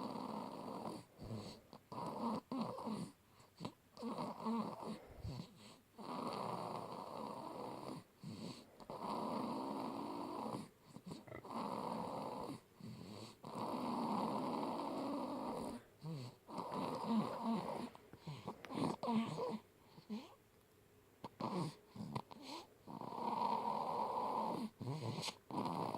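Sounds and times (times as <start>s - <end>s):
baby snoring: 0.0s - 20.4s, 21.2s - 25.9s.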